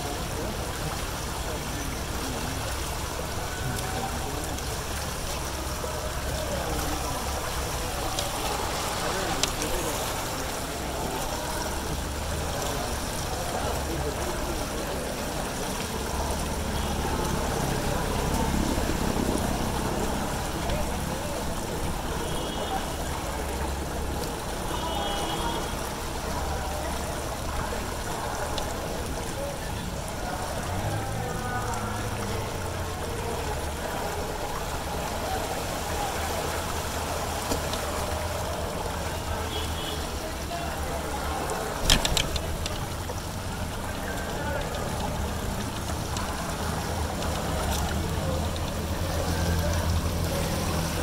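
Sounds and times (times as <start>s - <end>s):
floodwater swishing around wheels: 0.0s - 51.0s
low rumble of street noise: 0.0s - 51.0s.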